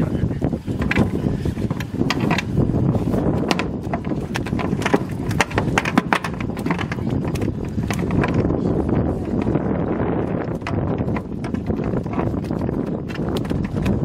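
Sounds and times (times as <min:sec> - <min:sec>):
wind on microphone: 0:00.0 - 0:14.0
knocks of net hauled over boat: 0:00.7 - 0:14.0.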